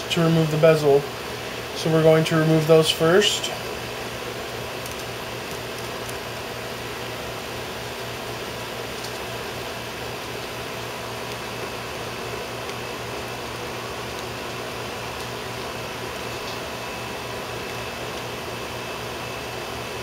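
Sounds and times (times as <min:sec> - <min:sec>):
fan-like hum and hiss: 0:00.0 - 0:20.0.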